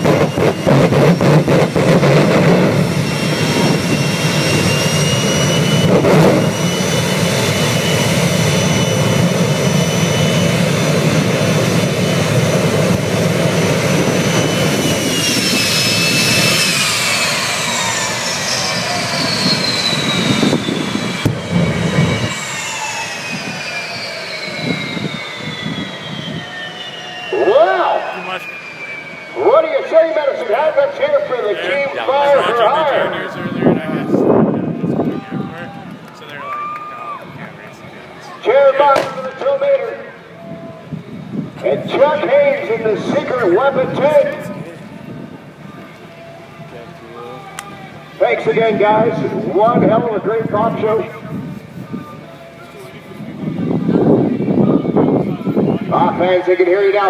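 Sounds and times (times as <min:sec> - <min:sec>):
high jet engine whine: 0:00.0 - 0:57.0
jet engine roaring: 0:00.0 - 0:57.0.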